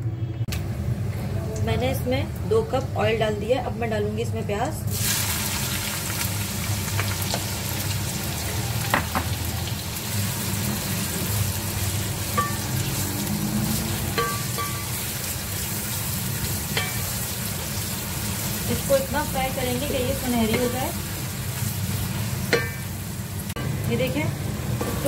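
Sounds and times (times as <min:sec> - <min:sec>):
onions frying in hot oil: 0:00.6 - 0:25.0.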